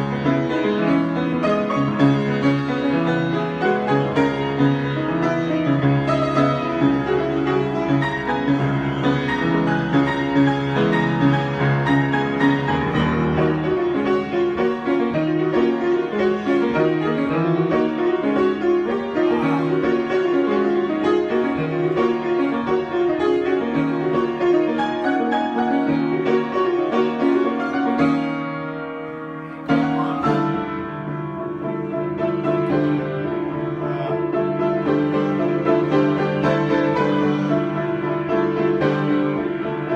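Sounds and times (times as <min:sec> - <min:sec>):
improvised piano playing: 0:00.0 - 0:39.9.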